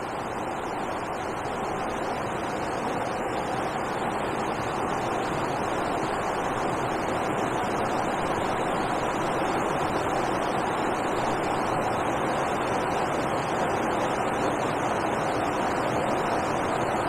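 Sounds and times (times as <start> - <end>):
water rushing over weir: 0.0 - 17.0.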